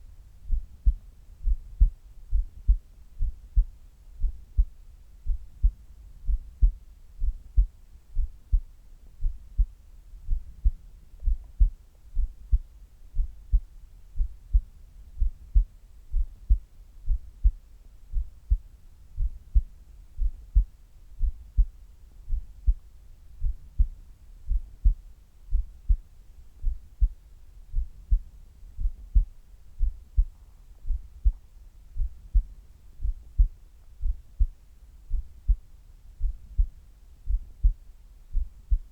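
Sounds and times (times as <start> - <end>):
heartbeat thuds: 0.0 - 38.9.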